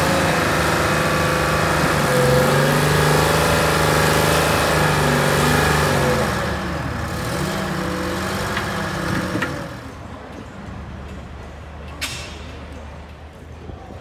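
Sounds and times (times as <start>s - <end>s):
heavy machine engine running: 0.0s - 13.2s.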